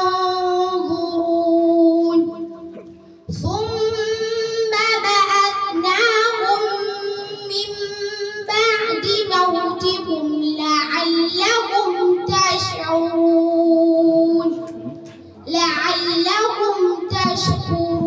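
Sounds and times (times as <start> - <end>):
girl chanting melodically: 0.0 - 18.0.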